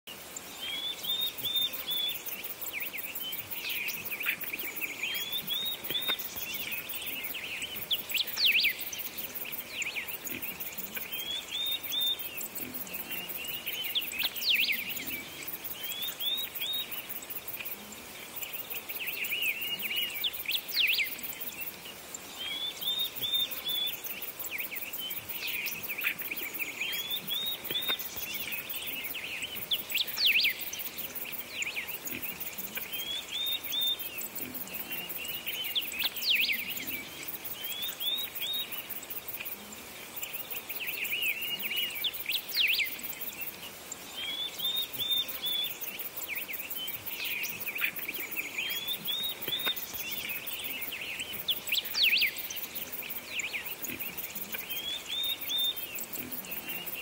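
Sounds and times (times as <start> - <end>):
faint steady hiss: 0.1 - 57.0
birds chirping and trilling: 0.2 - 57.0.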